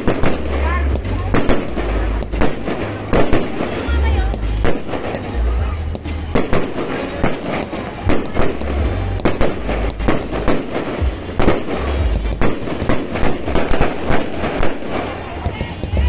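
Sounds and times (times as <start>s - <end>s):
deep fireworks booms: 0.0s - 16.0s
fireworks bangs and crackles: 0.0s - 16.0s.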